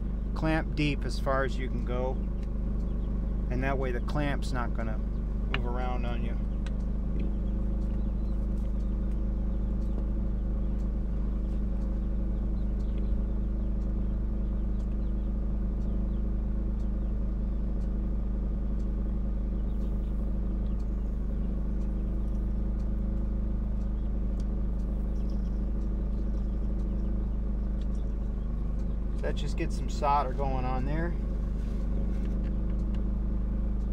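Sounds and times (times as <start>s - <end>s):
low hum and drone: 0.0s - 33.9s.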